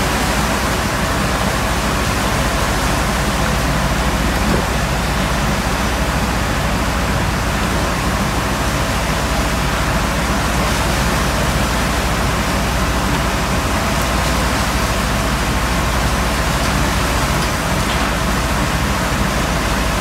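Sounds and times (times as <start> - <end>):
seawater rushing over steel deck: 0.0 - 20.0.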